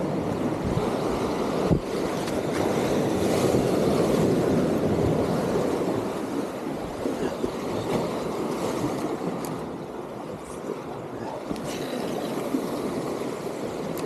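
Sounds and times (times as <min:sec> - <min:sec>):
sea surf washing among concrete blocks: 0:00.0 - 0:14.0
wind on microphone: 0:00.0 - 0:14.0.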